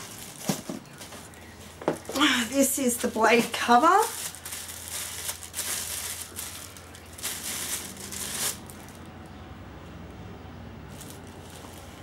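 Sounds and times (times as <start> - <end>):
plastic packaging crinkling: 0.0 - 9.1, 10.9 - 12.0.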